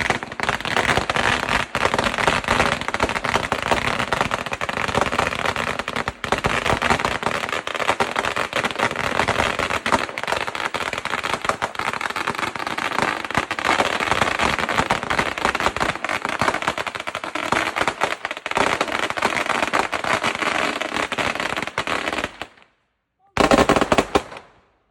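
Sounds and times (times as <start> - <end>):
firecrackers crackling: 0.0 - 22.8, 23.4 - 24.8.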